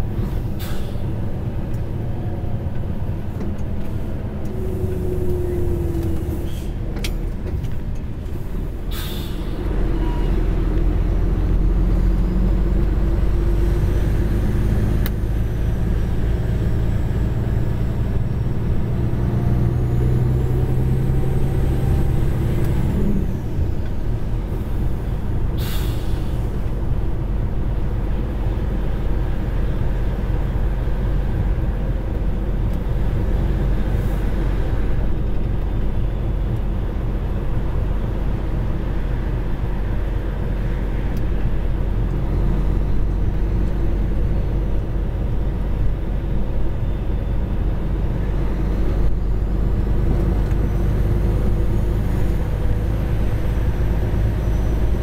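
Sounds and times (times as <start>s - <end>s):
heavy vehicle engine: 0.0s - 55.0s.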